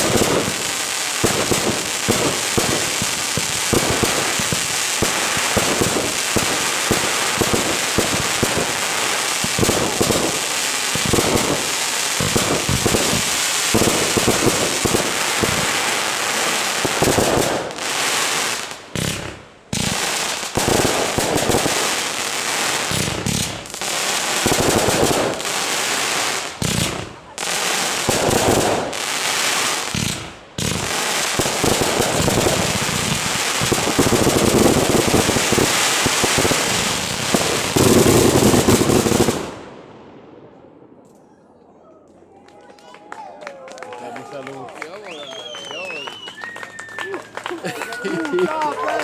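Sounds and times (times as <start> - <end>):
fireworks crackling and banging: 0.0 - 41.1, 42.7 - 49.0.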